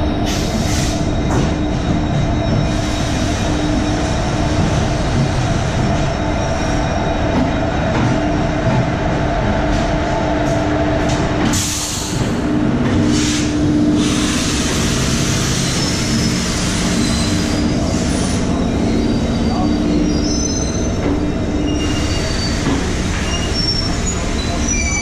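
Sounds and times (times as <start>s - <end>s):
electric locomotive hum: 0.0s - 25.0s
train wheels rumbling on rails: 0.0s - 25.0s.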